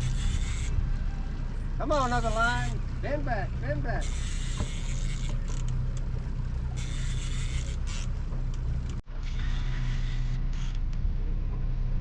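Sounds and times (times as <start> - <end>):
boat motor running: 0.0 - 11.8.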